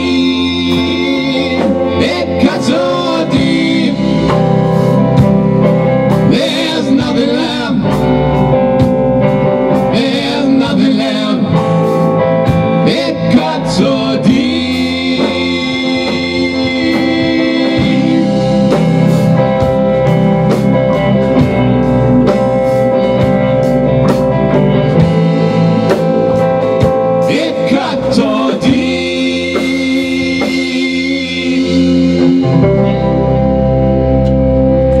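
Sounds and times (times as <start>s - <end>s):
drum kit: 0.0s - 35.0s
electric guitars: 0.0s - 35.0s
rock band playing live: 0.0s - 35.0s.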